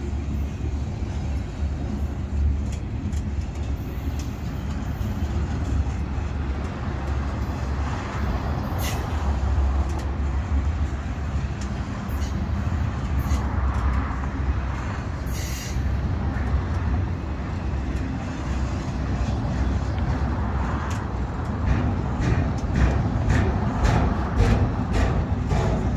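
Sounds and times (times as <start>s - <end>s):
freight train wheels rumbling: 0.0s - 25.9s.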